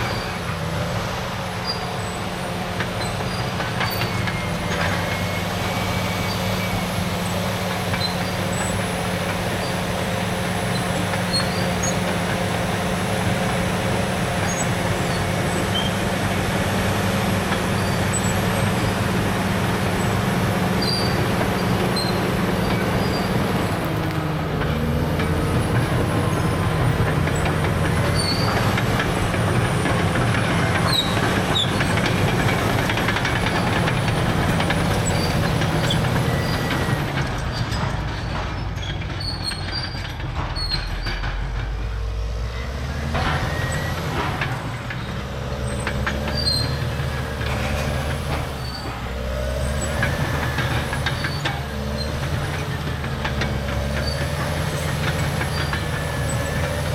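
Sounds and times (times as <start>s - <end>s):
diesel engine under load: 0.0s - 56.9s
steel tracks squealing and clanking: 0.0s - 56.9s.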